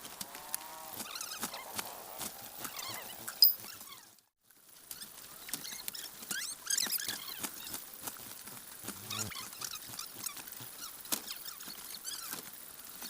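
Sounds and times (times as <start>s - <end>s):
chicks' feet pattering and scratching: 0.0s - 4.1s, 4.8s - 13.0s.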